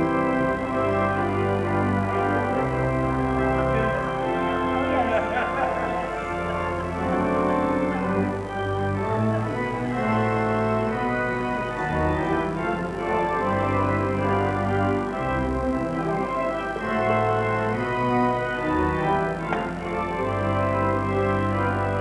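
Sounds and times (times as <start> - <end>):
church organ chords: 0.0 - 22.0.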